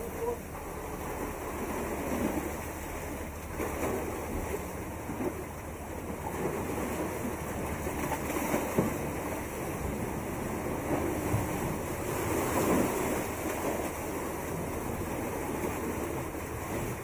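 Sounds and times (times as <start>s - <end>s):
sea water splashing: 0.0s - 17.0s.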